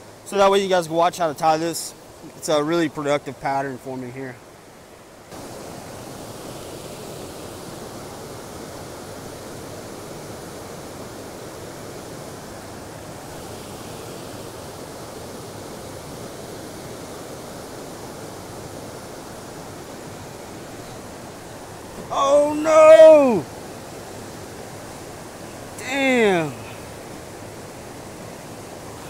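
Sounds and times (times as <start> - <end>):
stream rushing over boulders: 0.0 - 29.0.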